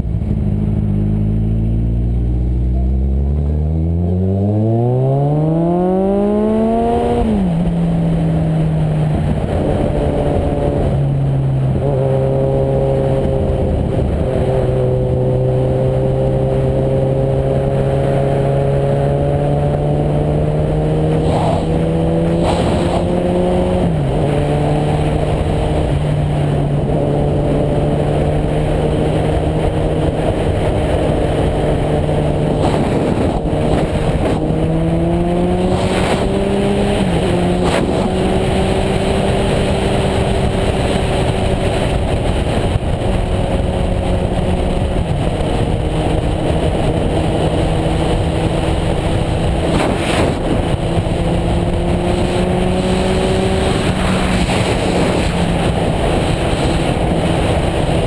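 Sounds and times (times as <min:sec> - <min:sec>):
motorcycle engine cruising: 0:00.0 - 0:58.0
rushing wind: 0:00.0 - 0:58.0.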